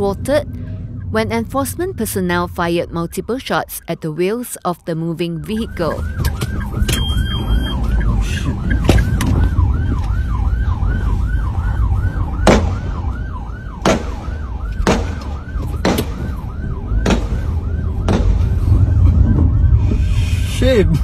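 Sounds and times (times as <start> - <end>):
police siren yelping: 0.0 - 21.0
road and engine rumble: 0.0 - 21.0.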